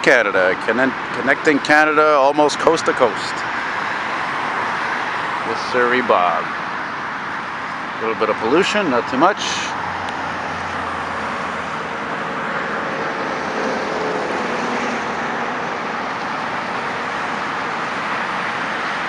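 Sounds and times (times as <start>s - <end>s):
highway traffic passing: 0.0s - 19.0s.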